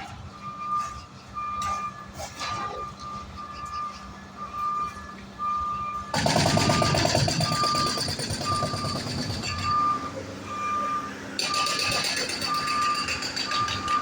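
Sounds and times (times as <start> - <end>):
reversing alarm beeping: 0.0 - 14.0.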